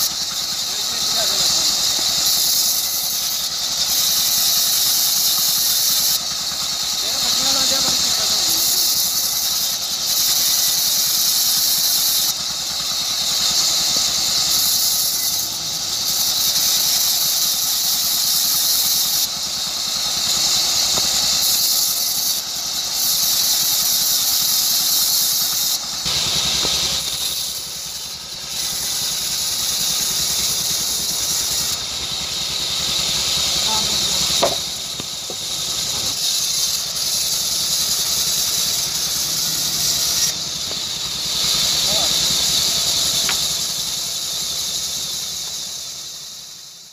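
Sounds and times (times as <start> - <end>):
power saw cutting wood: 0.0 - 46.9.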